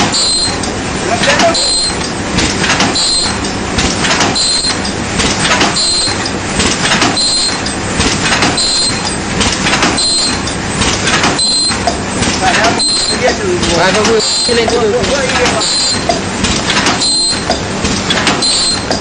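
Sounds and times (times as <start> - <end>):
machine clatter and knocking: 0.0 - 19.0.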